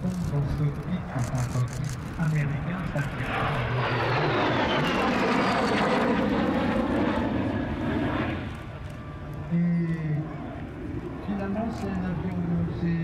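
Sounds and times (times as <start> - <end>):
jet passing overhead: 0.4 - 9.6, 10.2 - 13.0.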